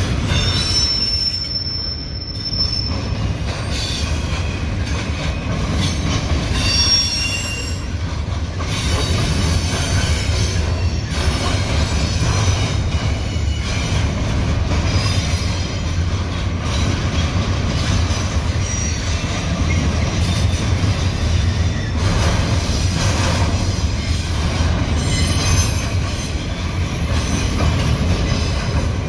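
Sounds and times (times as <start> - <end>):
freight train rumbling past: 0.0 - 29.0
train wheel squeals: 0.0 - 29.0.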